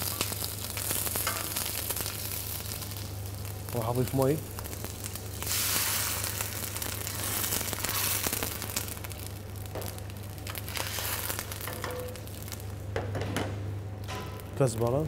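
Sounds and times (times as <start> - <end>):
water sizzling in hot oil: 0.0 - 12.8.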